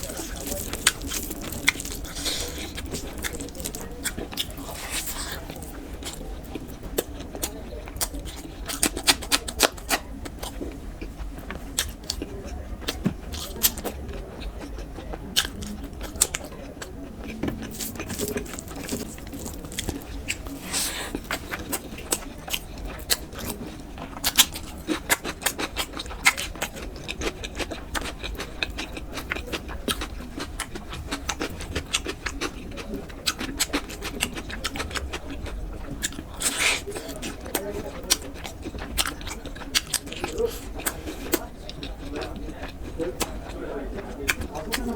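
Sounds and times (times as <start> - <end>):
wet chewing and mouth smacks: 0.0 - 44.9.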